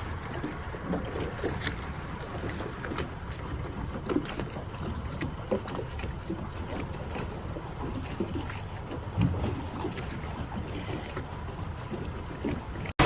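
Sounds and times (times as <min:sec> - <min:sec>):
water splashing against hull: 0:00.0 - 0:13.0.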